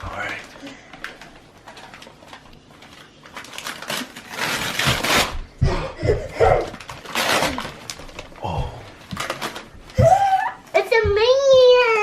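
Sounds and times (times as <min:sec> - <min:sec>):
wrapping paper tearing and crinkling: 0:00.1 - 0:10.0.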